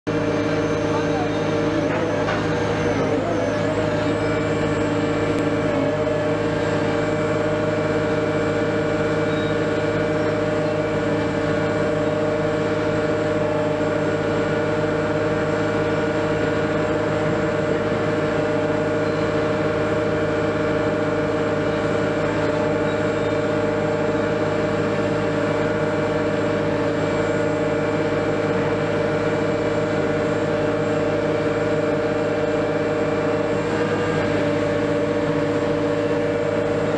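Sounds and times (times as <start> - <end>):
crane diesel engine droning: 0.1 - 36.9.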